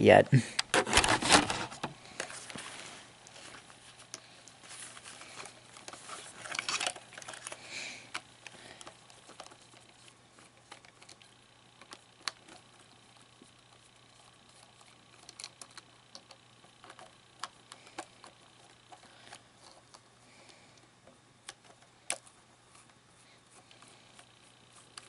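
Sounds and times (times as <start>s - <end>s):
plastic parts clicking and rustling: 0.6s - 2.6s, 3.3s - 25.0s.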